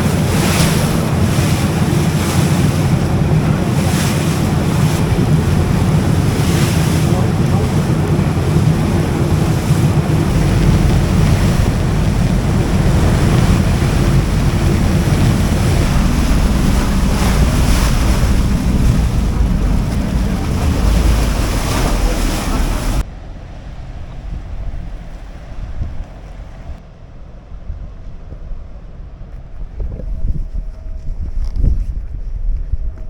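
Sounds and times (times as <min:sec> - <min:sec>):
wind buffeting microphone: 0:00.0 - 0:26.8, 0:27.4 - 0:33.0.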